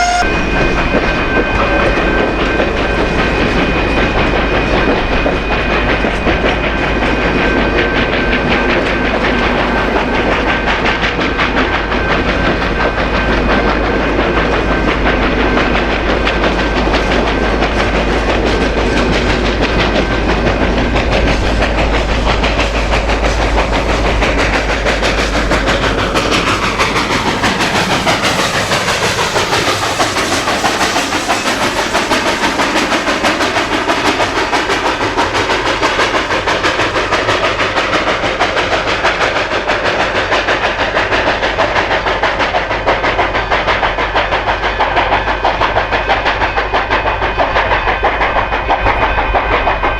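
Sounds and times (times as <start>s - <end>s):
deep train rumble: 0.0s - 49.9s
train wheels clattering on rails: 0.0s - 49.9s.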